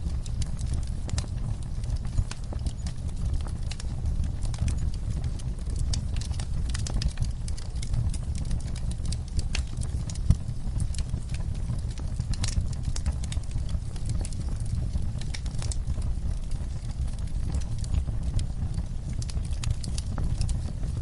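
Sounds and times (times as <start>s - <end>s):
fireplace crackling and popping: 0.0s - 21.0s
rain rumble: 0.0s - 21.0s.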